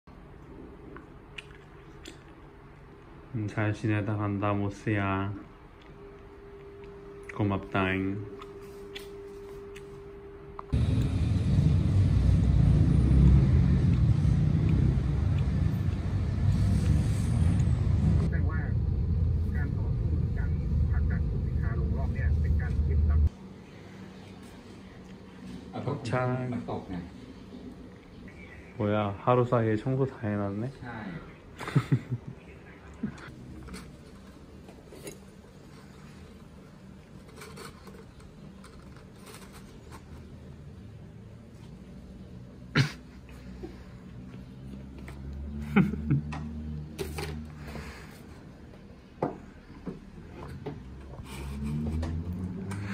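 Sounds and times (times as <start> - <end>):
low rumble of traffic: 0.1 - 52.9
low steady hum: 0.1 - 52.9.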